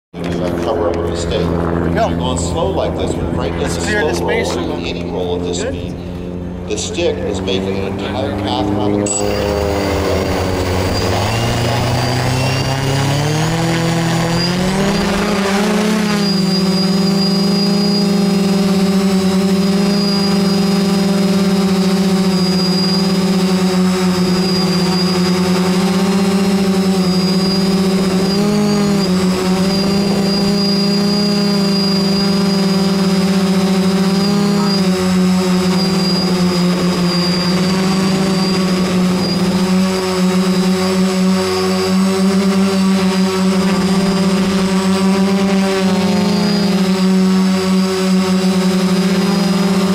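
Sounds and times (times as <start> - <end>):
drone motors whining: 0.2 - 49.9.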